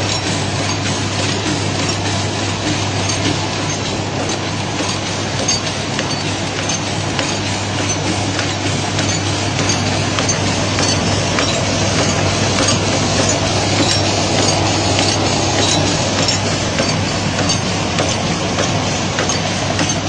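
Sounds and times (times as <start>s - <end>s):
constant machine hum: 0.0s - 20.0s
packing machine clatter: 0.0s - 20.0s
rapid mechanical clicking: 0.0s - 20.0s.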